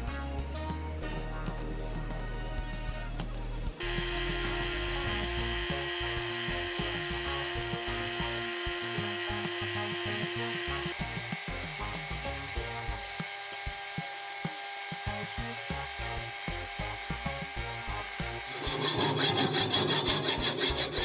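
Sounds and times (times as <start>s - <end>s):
background music: 0.0s - 21.0s
metal lathe cutting steel: 3.8s - 21.0s
motor whine: 3.8s - 21.0s.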